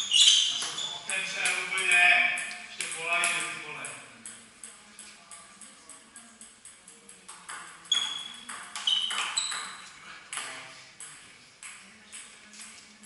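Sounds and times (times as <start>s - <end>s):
table tennis ball clicking: 0.6s - 12.8s.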